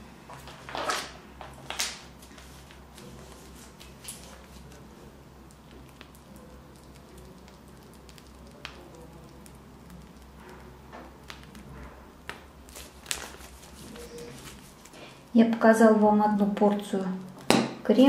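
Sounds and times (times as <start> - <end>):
low steady hum: 0.0 - 18.0
plastic piping bag squishing: 0.4 - 15.4.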